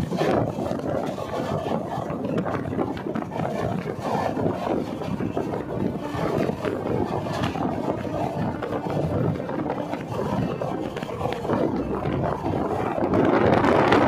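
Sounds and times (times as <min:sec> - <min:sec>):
train wheels rumbling on rails: 0:00.0 - 0:14.0
wind buffeting microphone: 0:00.0 - 0:14.0.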